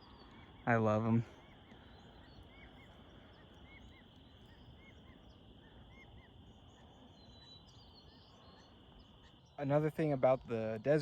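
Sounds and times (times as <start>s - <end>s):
insect chirps: 0.0s - 11.0s
insects humming: 0.0s - 11.0s.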